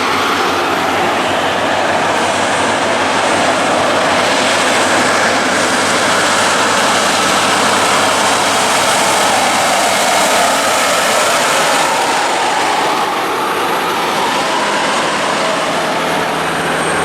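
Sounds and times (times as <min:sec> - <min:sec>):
heavy trucks roaring past: 0:00.0 - 0:17.0
tyre noise on road: 0:00.0 - 0:17.0.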